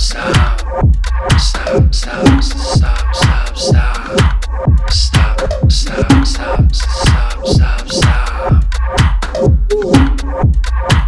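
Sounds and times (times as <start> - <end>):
electronic dance music: 0.0 - 11.0
hi-hat ticks: 0.0 - 11.0
kick-drum beat: 0.0 - 11.0.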